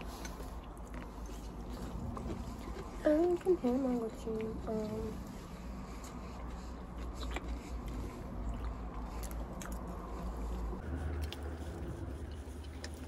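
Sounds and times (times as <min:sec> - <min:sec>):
biting and chewing: 0:00.0 - 0:13.0
low rumble: 0:00.0 - 0:13.0.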